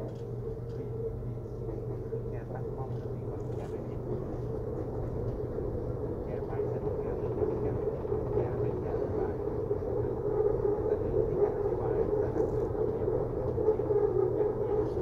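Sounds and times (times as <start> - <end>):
droning hum of running gear: 0.0 - 15.0.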